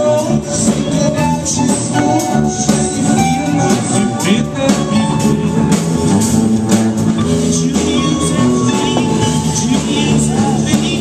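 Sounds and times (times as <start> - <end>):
drum kit: 0.0 - 11.0
electric guitars: 0.0 - 11.0.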